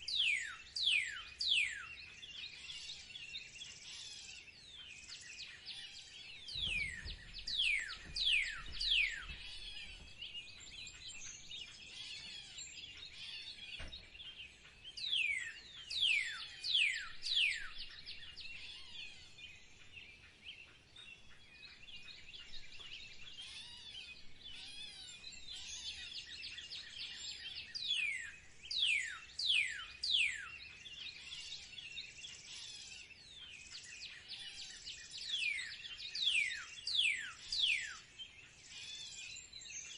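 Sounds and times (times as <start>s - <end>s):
birds twittering chorus: 0.0s - 39.9s.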